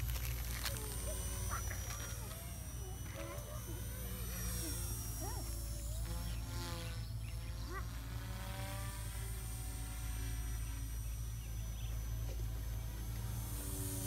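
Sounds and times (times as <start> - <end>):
helicopter rotor buzzing: 0.0 - 14.0
high motor whine: 0.0 - 14.0.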